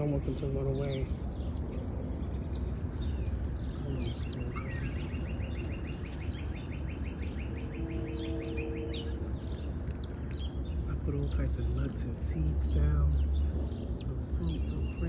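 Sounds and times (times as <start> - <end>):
birds chirping: 0.0 - 15.0
songbird rapid trill: 0.0 - 15.0
steady low rumble: 0.0 - 15.0.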